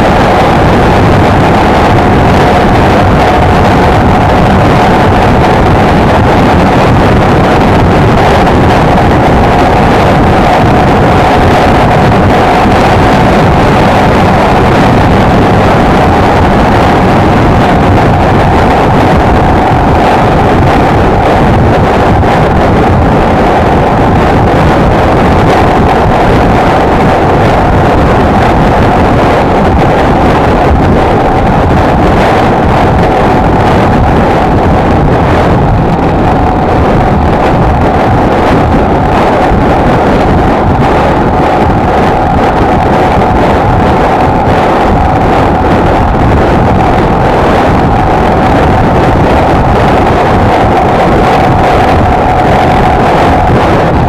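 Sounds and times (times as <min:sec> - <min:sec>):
steady hum: 0:00.0 - 0:54.0
wind rush on microphone: 0:00.0 - 0:54.0.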